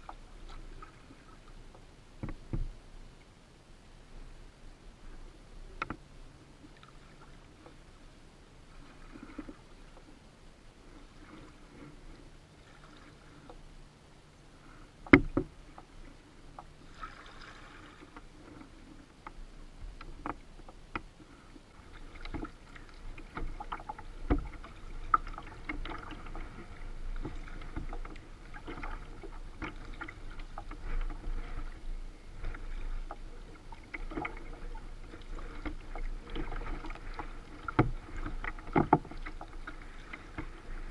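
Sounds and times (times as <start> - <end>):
paddle splashing water: 0.0 - 2.9, 5.0 - 40.9
faint steady hum: 0.0 - 40.9
water lapping at hull: 0.0 - 40.9.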